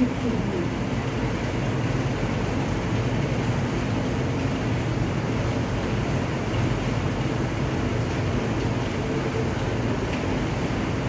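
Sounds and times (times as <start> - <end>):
heavy rain on concrete: 0.0 - 11.0.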